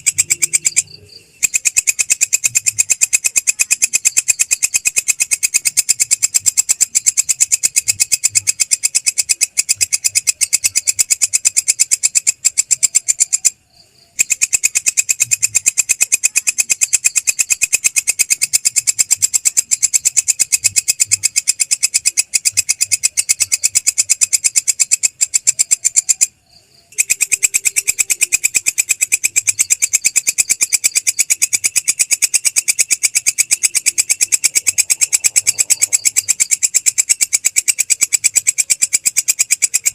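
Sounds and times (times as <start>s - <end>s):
grasshopper clicking call: 0.0s - 39.9s.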